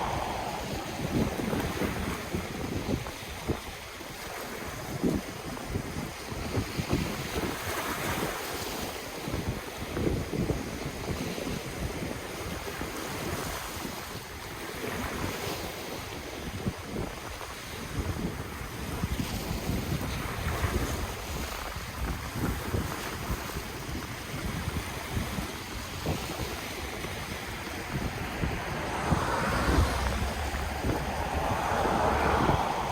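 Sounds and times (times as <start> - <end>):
ocean waves washing in: 0.0 - 7.2, 13.8 - 32.9
wind rumbling on microphone: 0.0 - 32.9.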